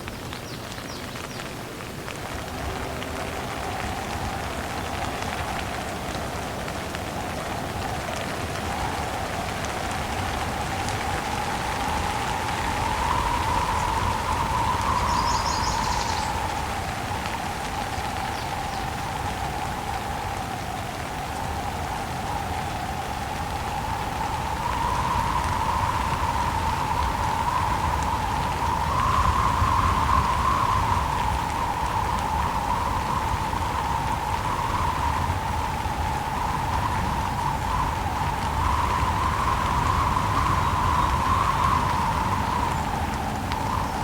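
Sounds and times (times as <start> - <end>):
heavy rain falling: 0.0 - 44.0
wind: 0.0 - 44.0.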